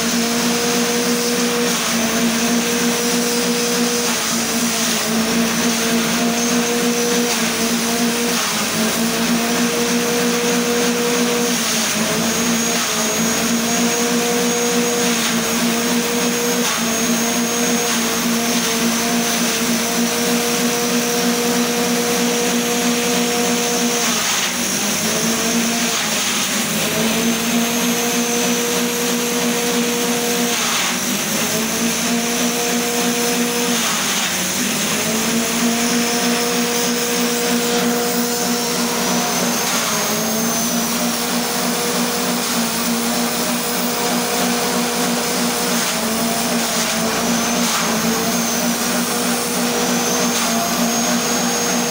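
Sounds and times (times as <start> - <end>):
cutter blades whining: 0.0 - 51.9.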